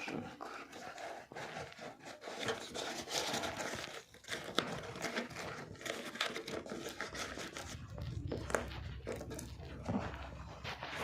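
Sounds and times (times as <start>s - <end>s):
cardboard rustling and scraping: 0.0s - 11.0s
plastic packaging crinkling: 2.2s - 11.0s.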